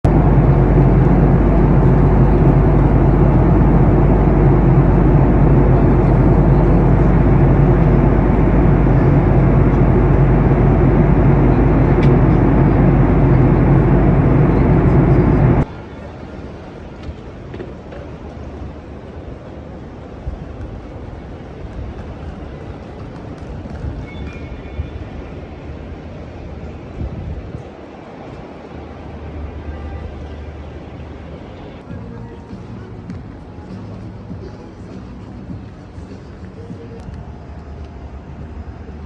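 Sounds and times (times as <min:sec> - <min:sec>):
city background noise: 0:00.0 - 0:39.0
vehicle engine hum: 0:00.0 - 0:39.0.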